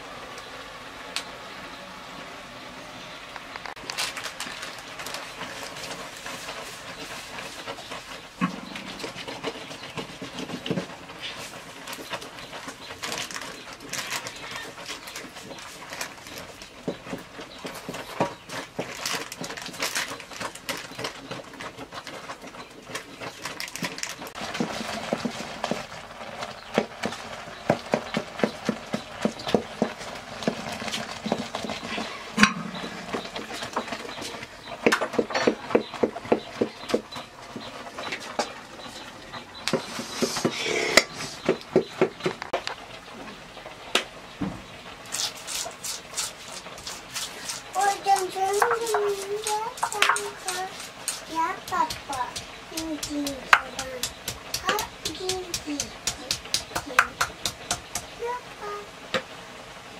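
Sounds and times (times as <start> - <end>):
wooden spoon stirring in metal wok: 3.7 - 42.6, 44.9 - 58.3.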